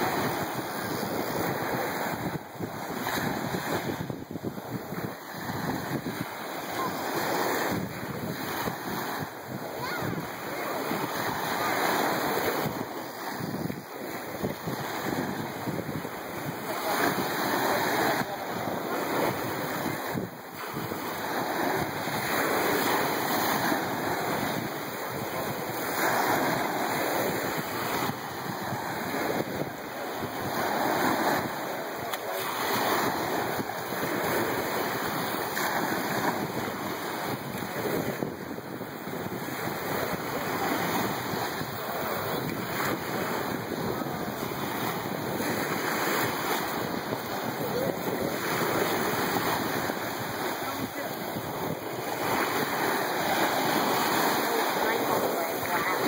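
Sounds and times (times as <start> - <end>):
surf washing up a beach: 0.0 - 56.0
wind buffeting microphone: 0.0 - 56.0.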